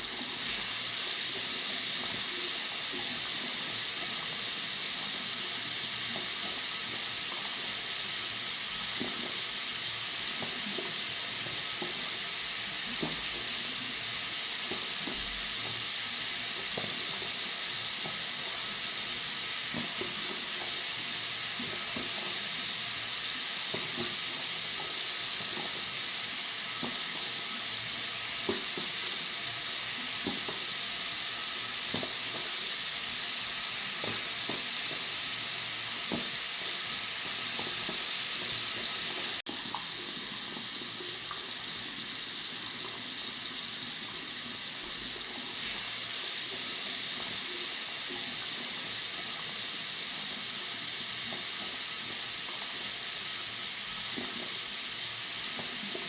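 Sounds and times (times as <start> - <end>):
tap water running into sink: 0.0 - 56.0.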